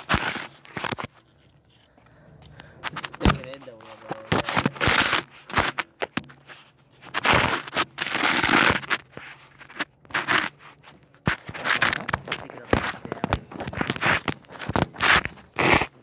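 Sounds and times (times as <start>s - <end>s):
camera scraping on gravel: 0.0s - 1.9s, 2.7s - 16.0s.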